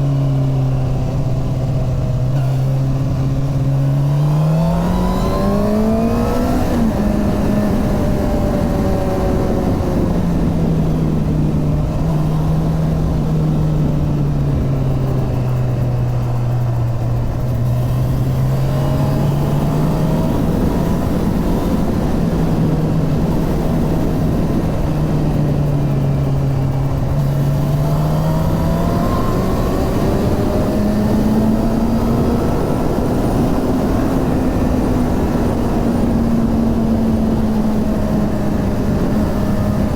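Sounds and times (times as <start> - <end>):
motorcycle engine running: 0.0 - 39.9
wind rush: 0.3 - 39.9.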